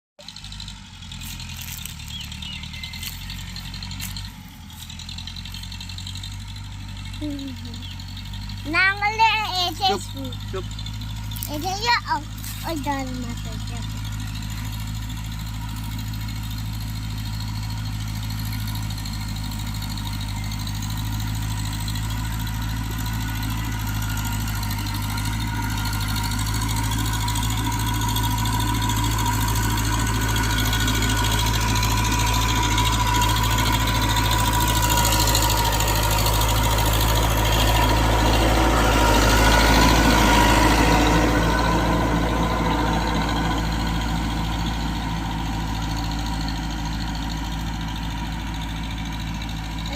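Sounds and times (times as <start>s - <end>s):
tractor engine running: 0.2s - 49.9s.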